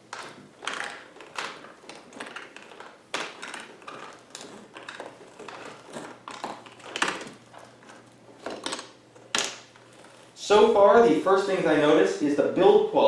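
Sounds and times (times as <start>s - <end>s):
power cord rustling and scraping: 0.0s - 12.0s.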